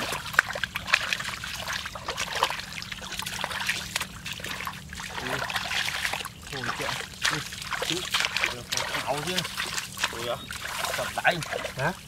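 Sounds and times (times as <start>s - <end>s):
hands squelching in mud: 0.0s - 12.0s
small water splashes: 0.0s - 12.0s.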